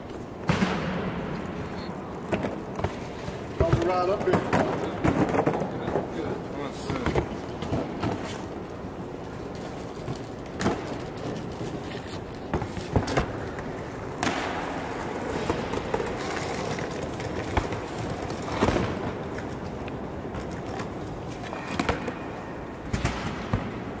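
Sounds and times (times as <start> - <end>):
case wheels rolling on concrete: 1.4 - 24.0.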